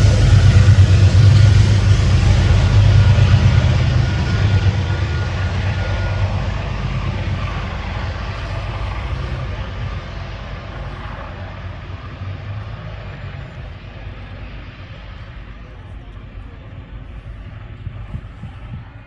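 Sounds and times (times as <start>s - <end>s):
diesel train engine rumbling: 0.0s - 19.0s.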